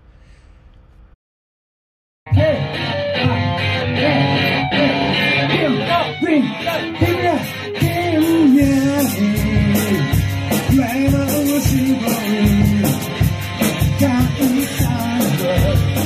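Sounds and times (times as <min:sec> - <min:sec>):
rock music with singing: 0:02.3 - 0:16.0.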